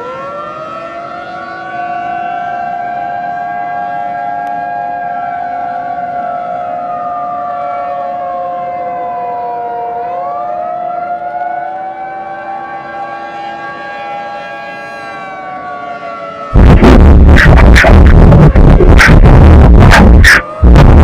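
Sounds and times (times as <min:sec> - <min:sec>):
civil defense siren wailing: 0:00.0 - 0:21.0.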